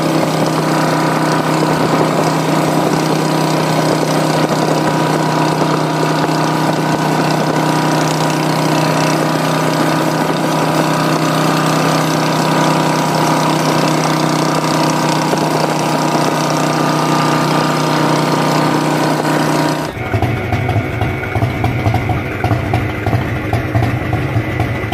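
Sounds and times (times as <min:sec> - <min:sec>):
motorcycle engines cruising: 0:00.0 - 0:24.9.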